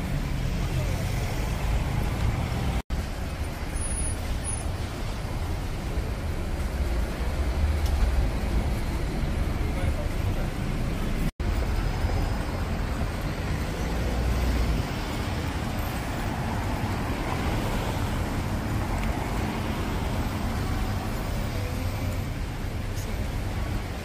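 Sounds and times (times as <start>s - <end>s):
passing cars: 0.0s - 24.0s.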